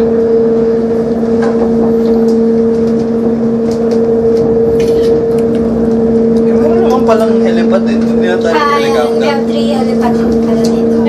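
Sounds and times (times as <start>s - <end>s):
rail car humming on track: 0.0s - 11.0s.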